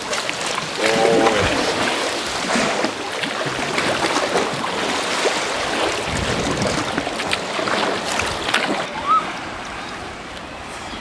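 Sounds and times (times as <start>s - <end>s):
water splashing against kayak hull: 0.0s - 11.0s.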